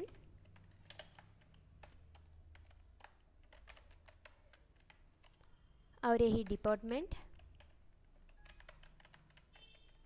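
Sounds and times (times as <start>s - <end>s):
typing on computer keyboard: 0.0s - 5.6s, 6.4s - 10.0s.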